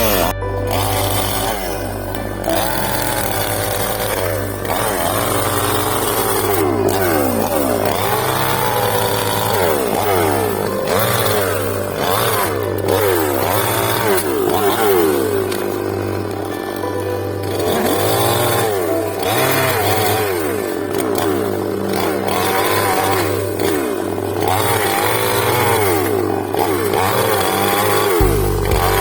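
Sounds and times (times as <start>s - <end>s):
background music: 0.0s - 29.0s
chainsaw cutting wood: 0.0s - 29.0s
chainsaw engine revving: 0.0s - 29.0s.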